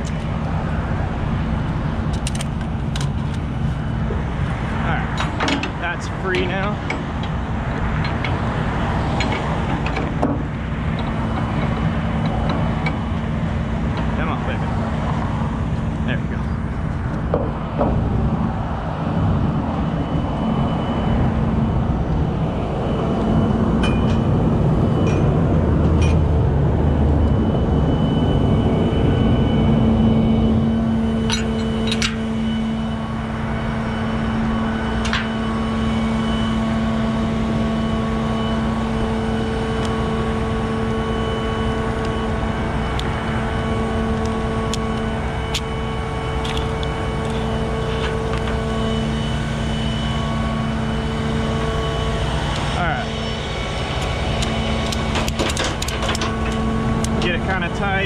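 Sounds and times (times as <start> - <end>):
heavy diesel equipment humming: 0.0 - 58.0.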